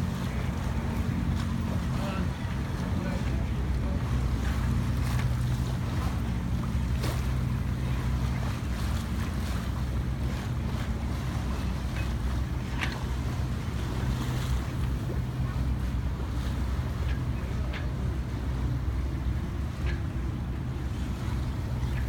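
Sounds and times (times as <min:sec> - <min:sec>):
steady low hum: 0:00.0 - 0:22.0
water washing past hull: 0:00.0 - 0:22.0.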